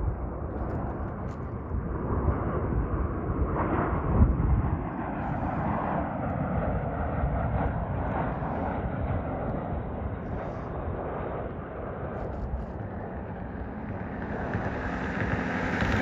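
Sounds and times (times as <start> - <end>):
jet airliner passing: 0.0 - 16.0
wind on microphone: 0.0 - 16.0.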